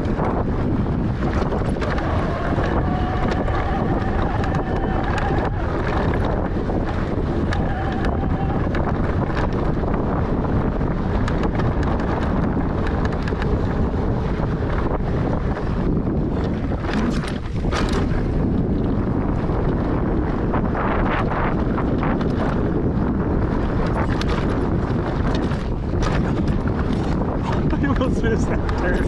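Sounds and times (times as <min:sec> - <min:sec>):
bike clicks and rattles: 0:00.0 - 0:29.0
wind on microphone: 0:00.0 - 0:29.0.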